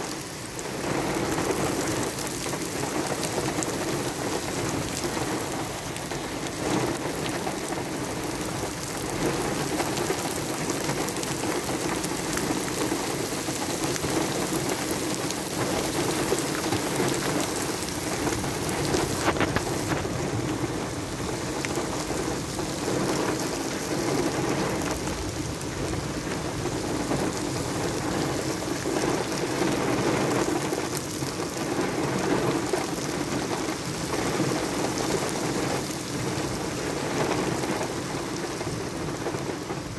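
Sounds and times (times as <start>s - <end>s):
heavy rain splashing on pavement: 0.0s - 39.9s.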